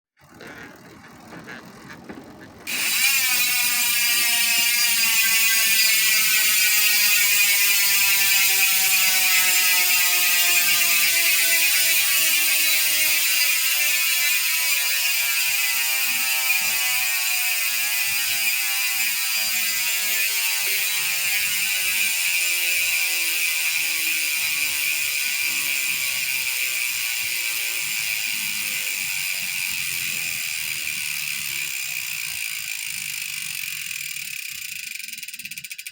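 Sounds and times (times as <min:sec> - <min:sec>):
bicycle hub ratchet buzzing: 0:00.2 - 0:35.9.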